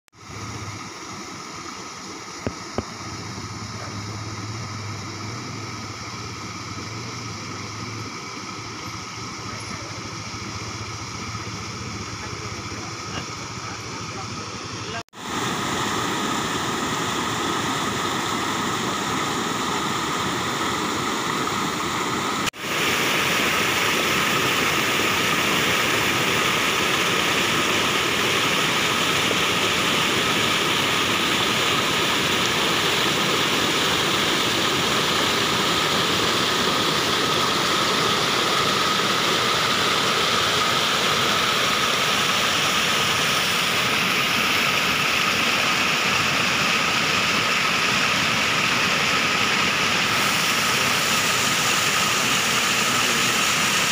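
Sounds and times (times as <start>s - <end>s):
water rushing over weir: 0.1s - 53.9s.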